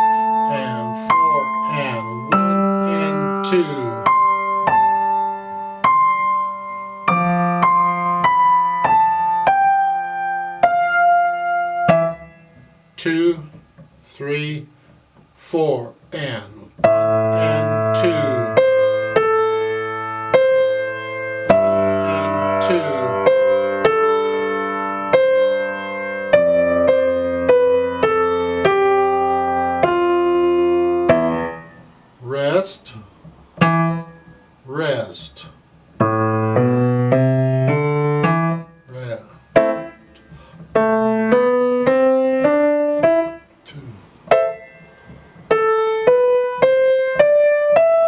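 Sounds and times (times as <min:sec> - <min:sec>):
grand piano played slowly: 0:00.0 - 0:13.8, 0:16.7 - 0:34.7, 0:35.6 - 0:48.0.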